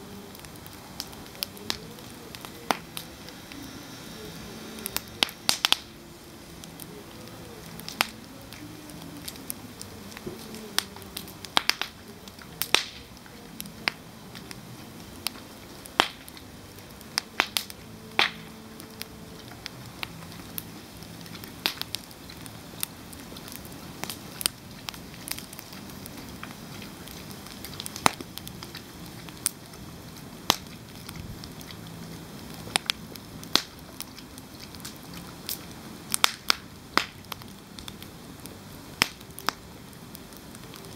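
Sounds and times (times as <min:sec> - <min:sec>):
campfire crackling: 0:00.0 - 0:40.9
steady low hiss: 0:00.0 - 0:40.9
sharp fire pops: 0:00.2 - 0:14.6, 0:15.2 - 0:40.9.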